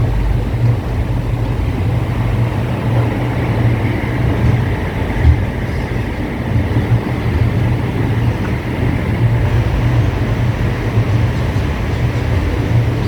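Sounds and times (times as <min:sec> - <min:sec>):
train jolt: 0:00.0 - 0:13.0
train rumbling: 0:00.0 - 0:13.0.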